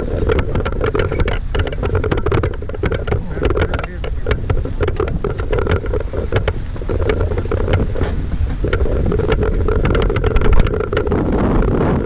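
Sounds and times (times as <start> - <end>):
small clicks and knocks: 0.0 - 11.7
vehicle engine low rumble: 0.0 - 12.0
wind noise on microphone: 0.0 - 12.0.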